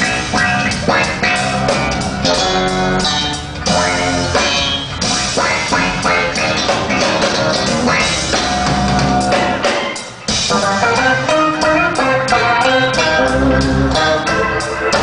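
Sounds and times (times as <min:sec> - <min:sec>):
live band with drum kit: 0:00.0 - 0:15.0.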